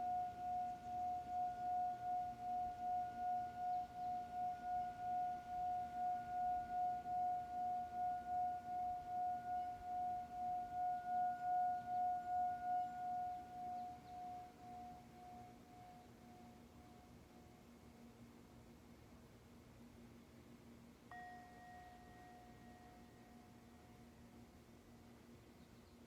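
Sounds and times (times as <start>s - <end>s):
singing bowl ringing: 0.0s - 17.6s, 21.1s - 24.5s.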